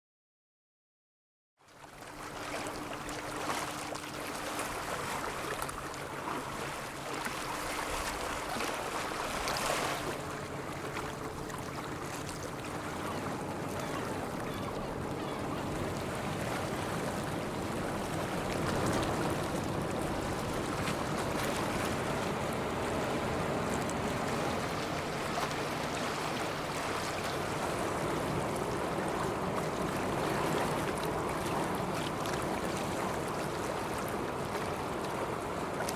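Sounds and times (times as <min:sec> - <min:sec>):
rushing water: 0:01.8 - 0:35.9.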